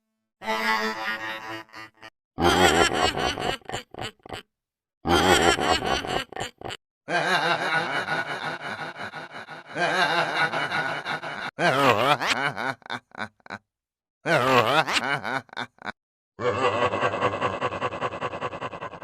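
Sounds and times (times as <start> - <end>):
laughing snickering sound effect: 0.4 - 4.5, 5.1 - 13.6, 14.3 - 19.0.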